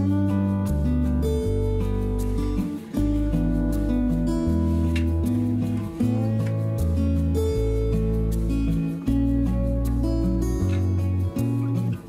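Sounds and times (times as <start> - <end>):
guitar-led background music: 0.0 - 12.0.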